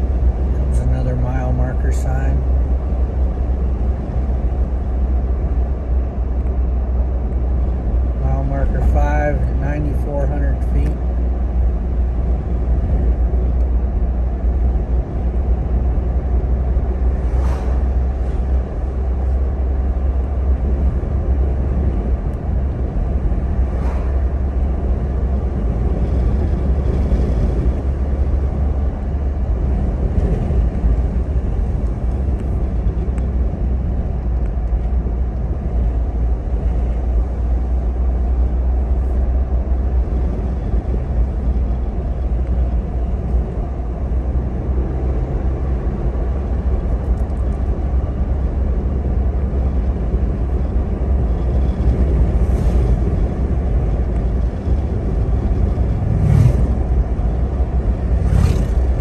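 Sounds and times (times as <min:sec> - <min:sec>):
car engine rumble: 0:00.0 - 0:59.0.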